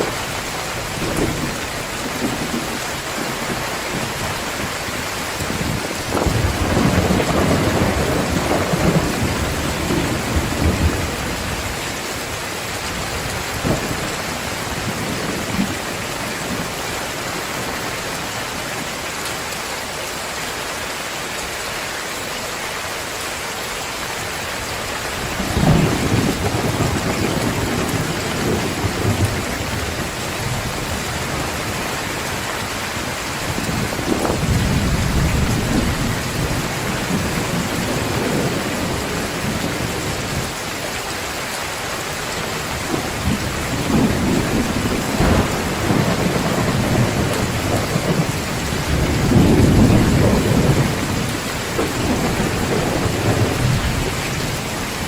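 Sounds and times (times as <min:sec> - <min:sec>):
thunder rumbling: 0:00.0 - 0:11.9, 0:12.9 - 0:18.2, 0:25.2 - 0:40.6, 0:42.5 - 0:55.0
heavy rain pouring: 0:00.0 - 0:55.0.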